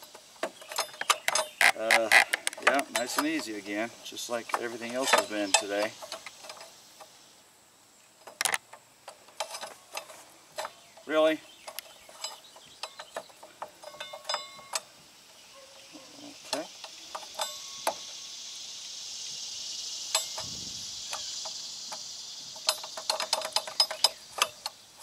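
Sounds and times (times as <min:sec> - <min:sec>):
metal tools and bolts clinking: 0:00.0 - 0:06.8, 0:08.2 - 0:15.0, 0:15.6 - 0:18.1, 0:20.1 - 0:20.5, 0:21.1 - 0:25.0
steady high hiss: 0:00.0 - 0:25.0.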